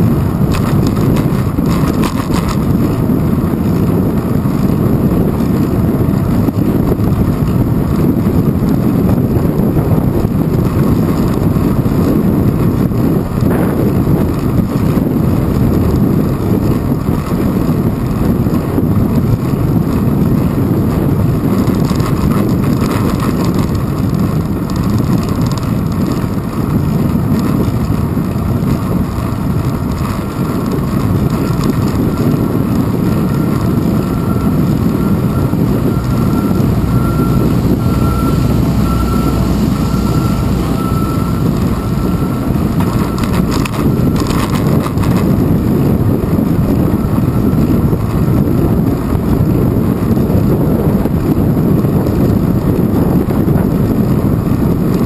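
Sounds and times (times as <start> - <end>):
bicycle road noise: 0.0 - 55.0
wind buffeting camera: 0.0 - 55.0.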